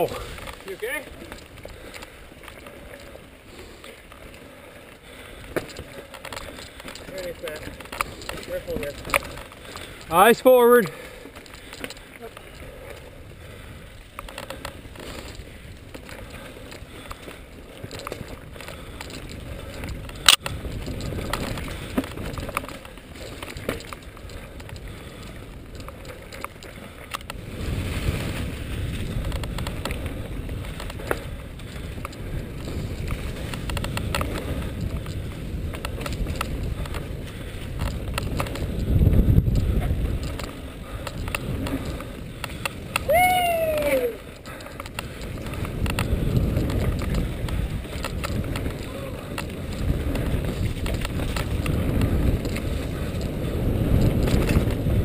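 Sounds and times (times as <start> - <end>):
bike rattles and clicks: 0.0 - 55.0
tyres rolling over dry leaves: 0.0 - 55.0
wind rumble on microphone: 0.0 - 55.0.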